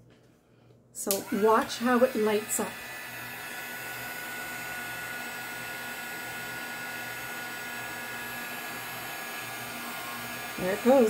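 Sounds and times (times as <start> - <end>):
heat tool fan humming: 1.1 - 11.0.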